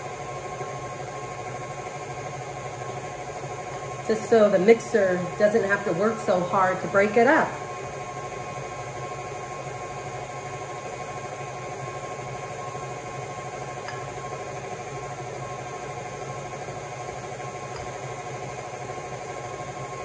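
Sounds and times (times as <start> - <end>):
stand mixer motor hum: 0.0 - 20.0.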